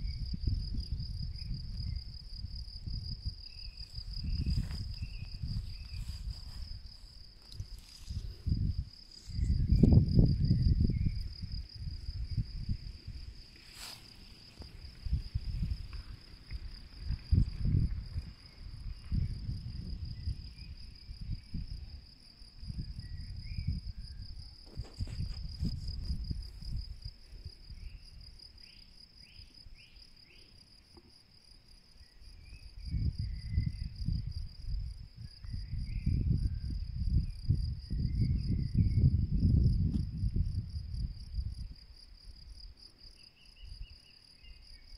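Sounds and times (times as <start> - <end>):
wind rumble on microphone: 0.0 - 28.7, 32.2 - 44.9
insects chirping in pulsing trill: 0.0 - 44.9.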